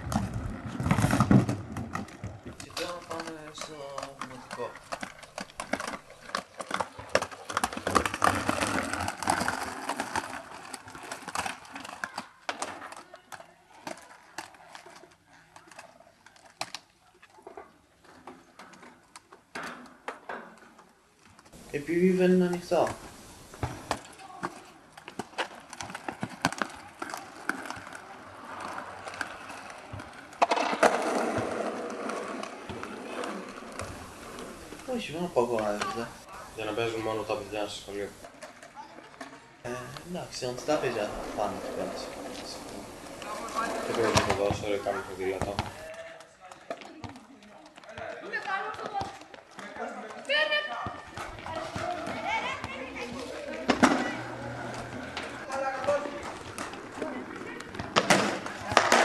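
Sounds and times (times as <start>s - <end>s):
skate wheels rolling on asphalt: 0.0s - 59.0s.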